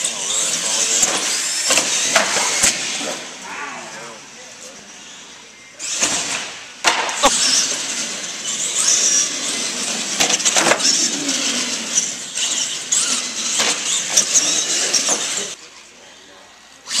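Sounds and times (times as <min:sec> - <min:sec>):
rc trucks motors buzzing: 0:00.0 - 0:17.0.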